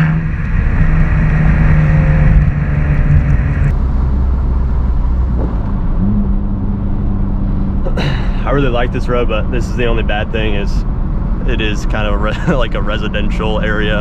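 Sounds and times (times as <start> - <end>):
car engine under throttle: 0.0 - 14.0.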